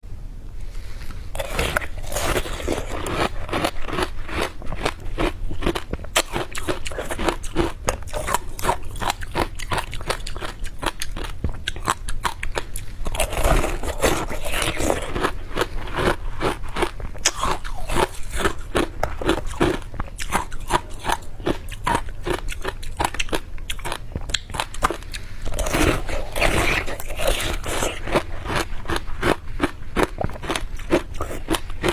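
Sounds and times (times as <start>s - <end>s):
crunching and chewing ice: 1.4s - 31.9s.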